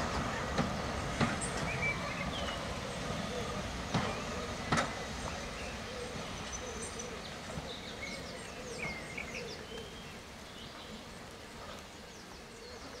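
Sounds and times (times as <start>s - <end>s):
small birds singing: 0.5s - 13.0s.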